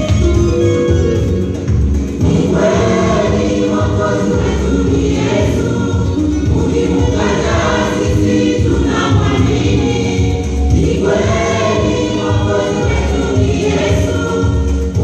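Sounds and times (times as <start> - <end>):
choir singing gospel: 0.1 - 15.0.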